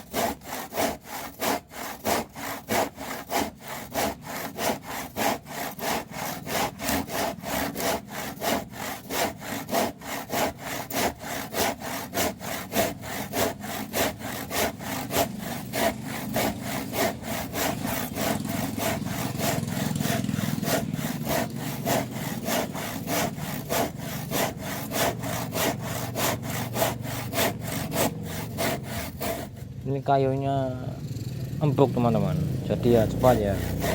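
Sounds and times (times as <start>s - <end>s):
hand saw cutting wood: 0.0s - 29.9s, 31.7s - 33.9s.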